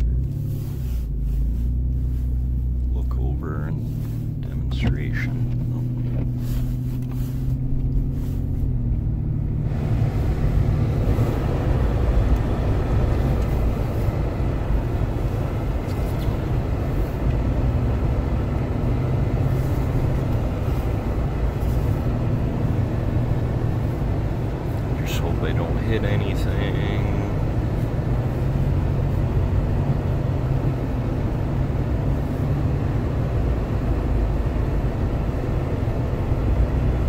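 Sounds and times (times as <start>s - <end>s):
car engine humming: 0.0s - 37.0s
road noise: 0.0s - 37.0s.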